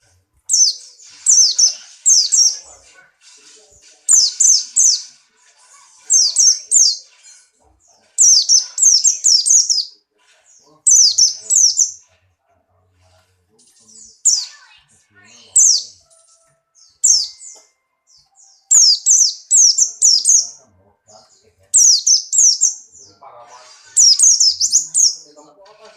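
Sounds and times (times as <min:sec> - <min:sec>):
bird high chirps: 0:00.5 - 0:02.8, 0:04.1 - 0:12.1, 0:13.8 - 0:25.4.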